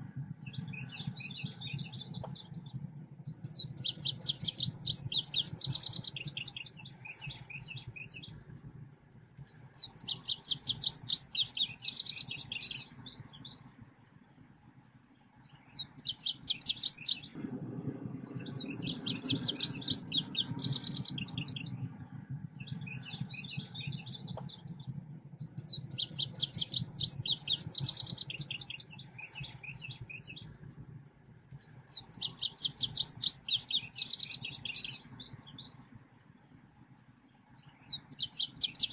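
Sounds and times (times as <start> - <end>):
songbird chirping and trilling: 0.0 - 8.7, 9.4 - 38.9
low steady hum: 0.0 - 38.9.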